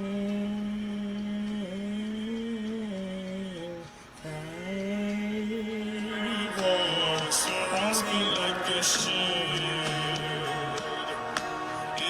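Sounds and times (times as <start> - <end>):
person singing a slow worship song: 0.0 - 12.0.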